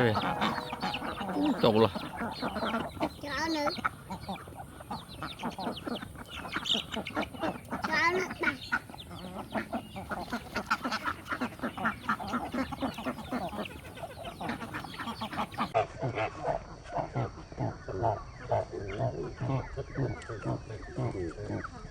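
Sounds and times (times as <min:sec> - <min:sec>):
flock of ducks quacking: 0:00.0 - 0:21.9.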